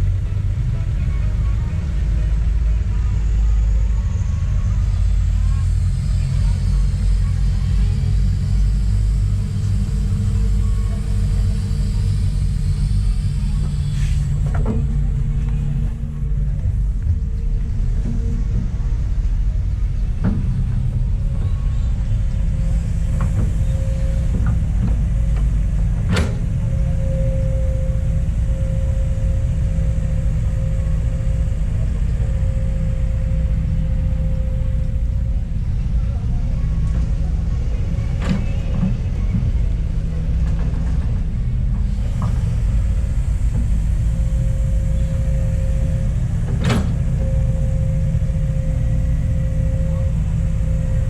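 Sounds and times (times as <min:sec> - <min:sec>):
excavator diesel engine rumbling: 0:00.0 - 0:51.0.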